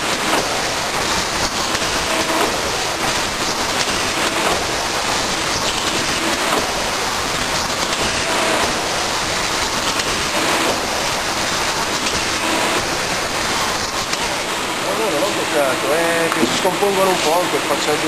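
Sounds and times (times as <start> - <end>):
shrink-wrapping machine hissing: 0.0 - 18.0.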